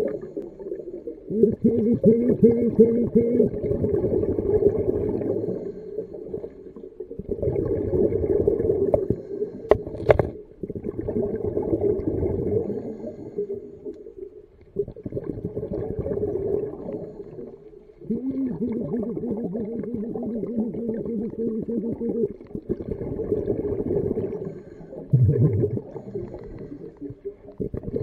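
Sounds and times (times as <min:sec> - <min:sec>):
underwater rushing and gurgling: 0:00.0 - 0:28.0.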